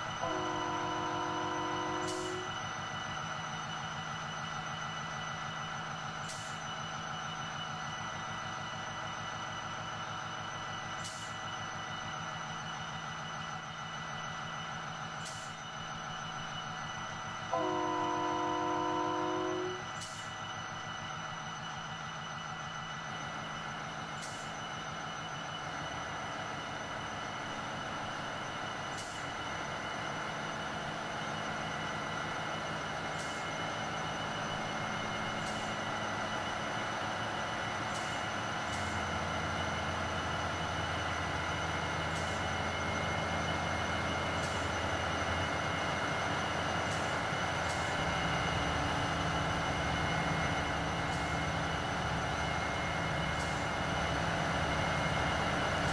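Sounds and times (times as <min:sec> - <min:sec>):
train running slowly: 0:00.0 - 0:55.9.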